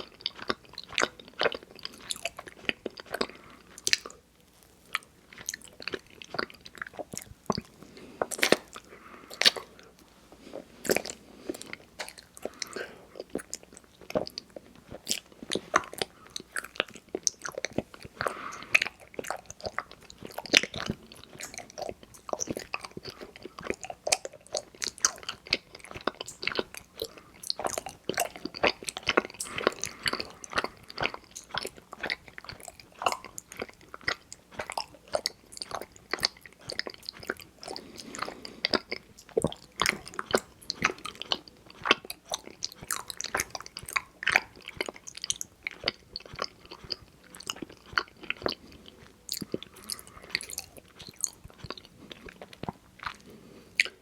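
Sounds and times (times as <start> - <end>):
sticky chewing with mouth clicks: 0.0 - 54.0.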